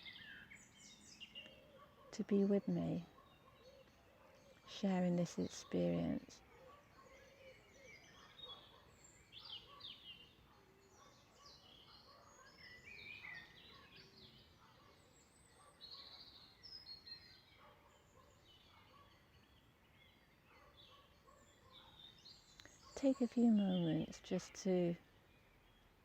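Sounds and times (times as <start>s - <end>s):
faint songbird chorus: 0.0s - 26.0s.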